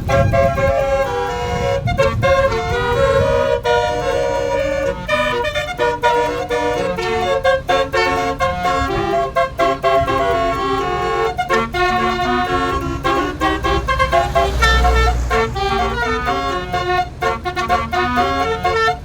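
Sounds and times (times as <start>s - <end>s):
engine and road rumble: 0.0s - 19.0s
multi-tone bus horn melody: 0.0s - 19.0s.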